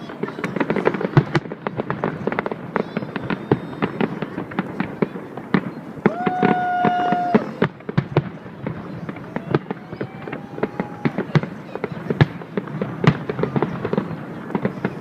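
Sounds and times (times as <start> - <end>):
fireworks crackling and bangs: 0.0 - 15.0.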